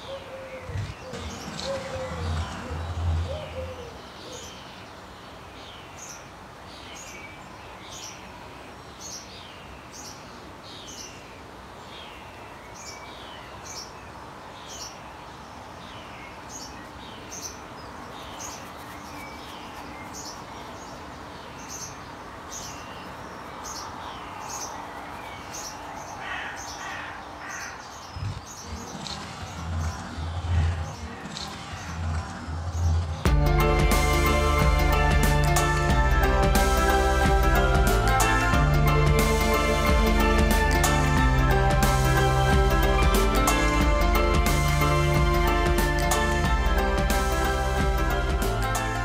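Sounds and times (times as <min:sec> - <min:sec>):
steady background noise: 0:00.0 - 0:49.0.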